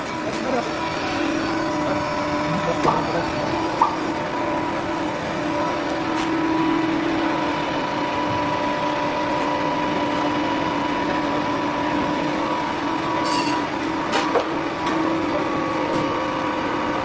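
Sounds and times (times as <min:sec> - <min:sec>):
industrial machinery humming: 0:00.0 - 0:17.0.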